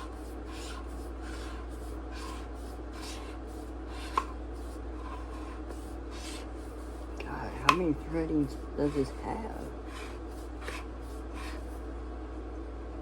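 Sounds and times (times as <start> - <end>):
threads scraping while unscrewing: 0.0 - 11.8.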